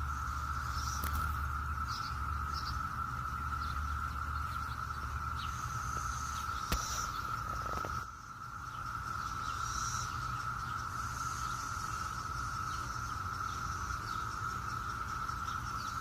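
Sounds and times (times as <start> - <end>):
birds chirping: 0.0 - 16.0
cicadas droning: 0.0 - 16.0.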